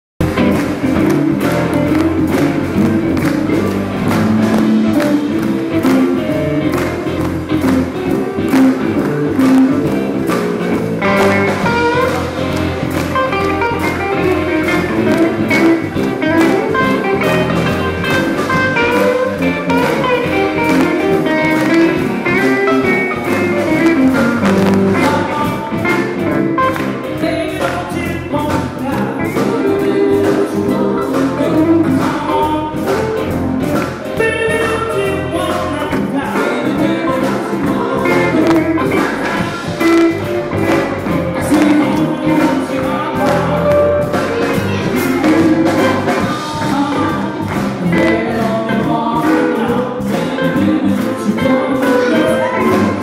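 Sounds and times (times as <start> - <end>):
live blues band playing: 0.2 - 53.0.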